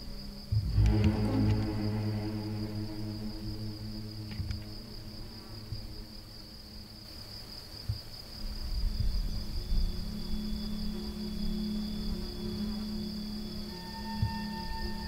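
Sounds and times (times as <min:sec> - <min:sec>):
crickets chirring: 0:00.0 - 0:15.0
soft background music: 0:00.0 - 0:15.0.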